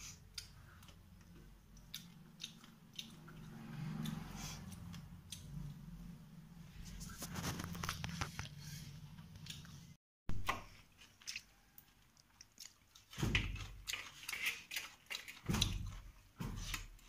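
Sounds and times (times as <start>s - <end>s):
person chewing: 0.0s - 6.0s, 6.9s - 17.0s.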